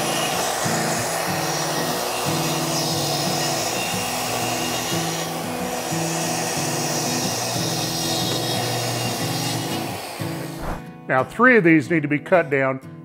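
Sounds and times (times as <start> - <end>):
dust extractor running: 0.0 - 10.8
track saw cutting plywood: 0.0 - 10.8
background music: 0.0 - 13.0.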